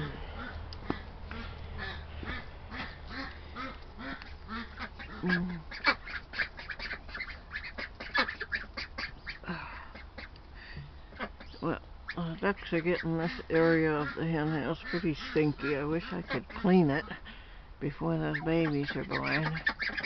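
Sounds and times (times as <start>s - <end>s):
ducks quacking: 0.0s - 10.4s, 11.1s - 20.0s.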